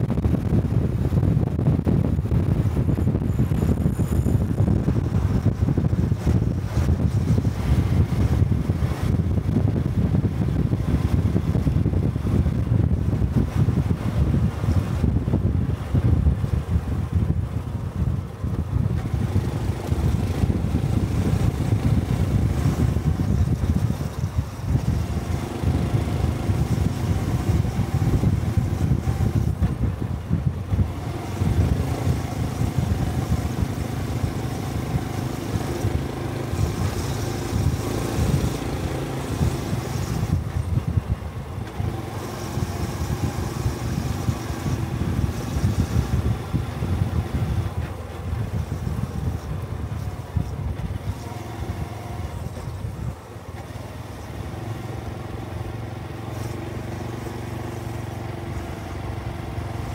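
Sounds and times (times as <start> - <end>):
motorcycle engine running: 0.0 - 59.9
wind rumbling over microphone: 0.0 - 59.9.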